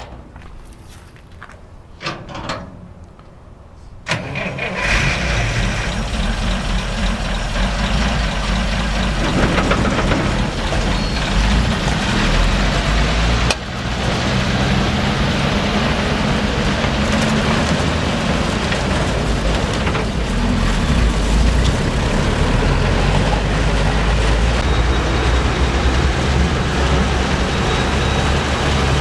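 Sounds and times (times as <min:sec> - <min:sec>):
engine starting and running: 0:04.1 - 0:29.0.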